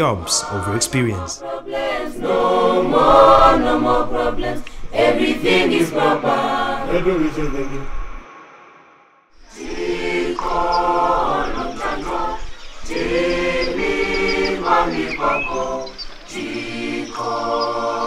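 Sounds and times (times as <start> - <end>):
choir singing unaccompanied: 0.0 - 7.8, 9.4 - 18.0.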